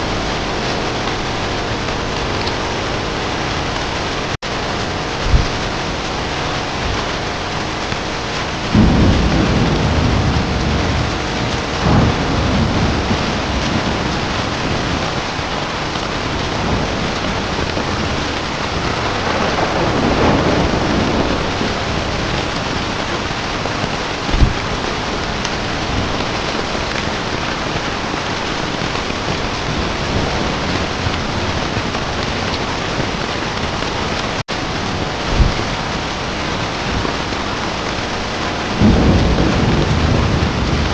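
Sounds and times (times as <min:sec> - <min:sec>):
heavy rain: 0:00.0 - 0:40.9
rolling thunder: 0:00.0 - 0:40.9
sharp thunder crack: 0:00.0 - 0:40.9.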